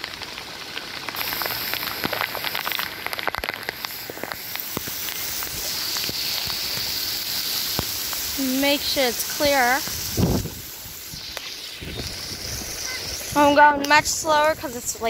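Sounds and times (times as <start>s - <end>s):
close raindrop hits: 0.0s - 15.0s
heavy rain falling: 0.0s - 15.0s.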